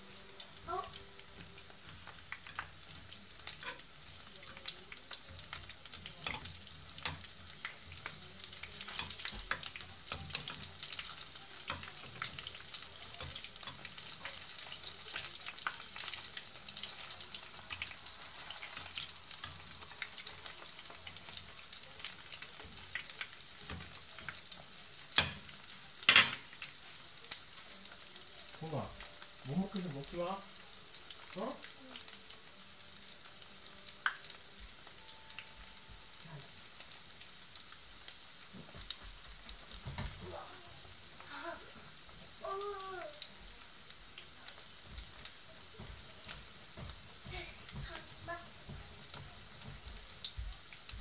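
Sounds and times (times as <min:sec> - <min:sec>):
food sizzling in oil: 0:00.0 - 0:51.0.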